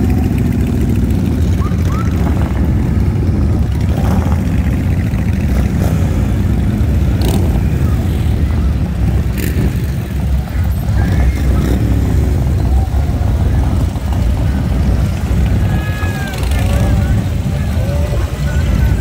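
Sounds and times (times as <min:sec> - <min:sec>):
vehicle engines rumbling: 0:00.0 - 0:19.0.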